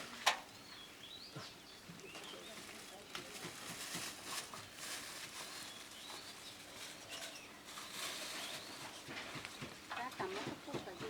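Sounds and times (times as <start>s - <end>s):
outdoor rustling: 0.0s - 11.0s.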